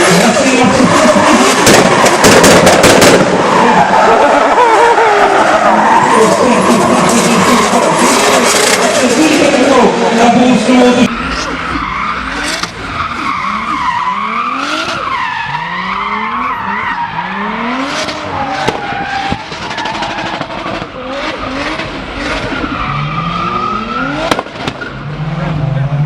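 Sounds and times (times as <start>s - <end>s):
car engine revving hard: 0.0s - 26.0s.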